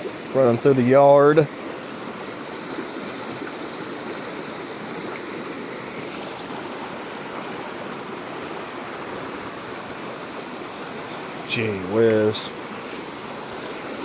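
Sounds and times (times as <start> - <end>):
rushing flood water: 0.0 - 14.0.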